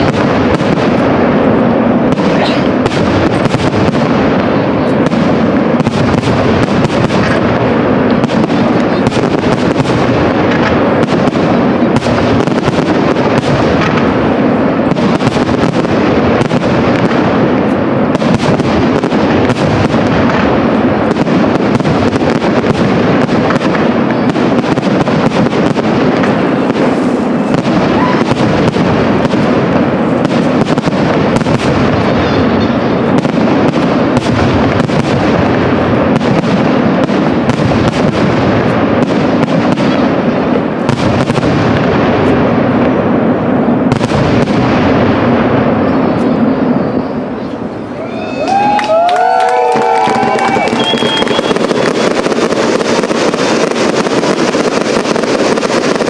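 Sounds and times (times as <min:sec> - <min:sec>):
firework shells bursting: 0:00.0 - 0:46.4, 0:49.2 - 0:56.0.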